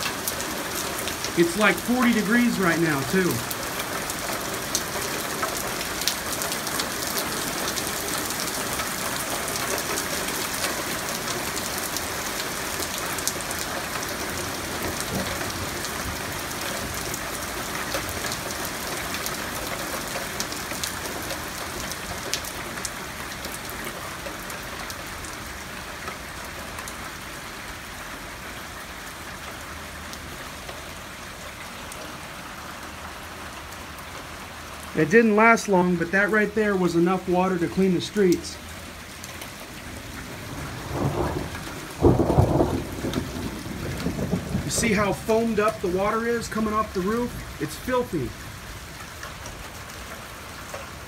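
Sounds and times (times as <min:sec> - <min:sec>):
heavy rain hissing: 0:00.0 - 0:24.2, 0:25.0 - 0:49.2.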